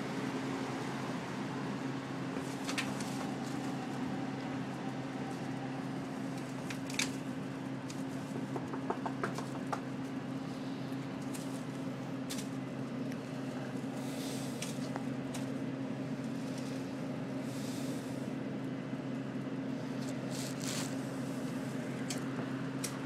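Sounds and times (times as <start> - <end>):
low mechanical hum: 0.0 - 23.0
street noise hiss: 0.0 - 23.0.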